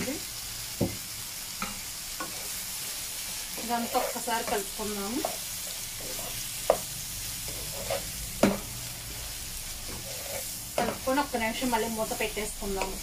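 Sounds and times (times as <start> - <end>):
frying sizzle: 0.0 - 13.0
spatula stirring in frying pan: 0.7 - 13.0.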